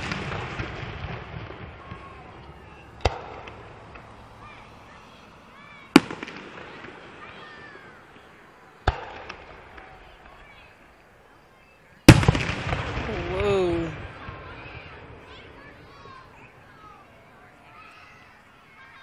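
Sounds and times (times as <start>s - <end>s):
fireworks bursting with echo: 0.0s - 18.9s.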